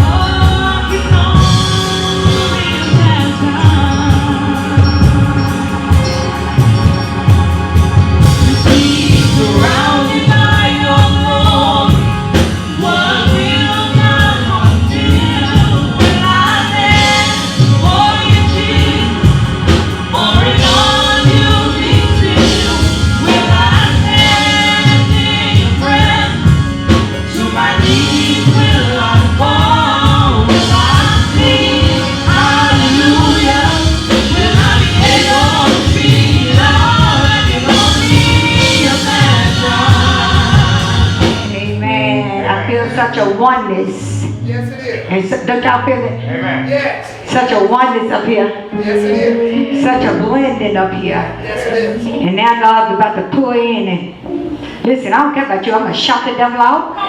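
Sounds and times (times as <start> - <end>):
choir singing gospel: 0.0 - 53.0
live band with steady beat: 0.0 - 57.0.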